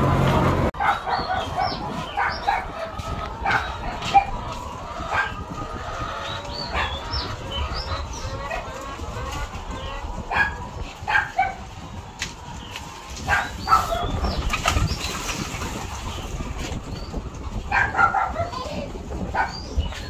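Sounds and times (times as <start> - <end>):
hens clucking and squawking: 0.0 - 20.0.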